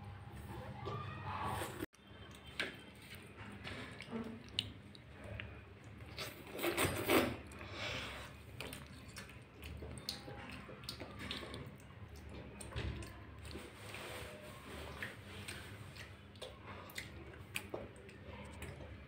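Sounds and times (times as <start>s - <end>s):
child eating noodles: 0.8s - 19.0s.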